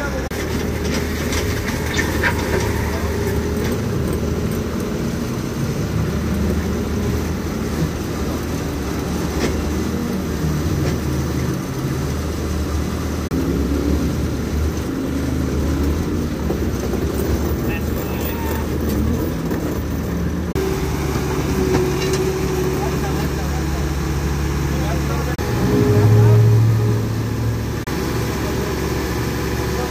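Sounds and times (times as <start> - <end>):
track loader engine running: 0.0 - 29.9.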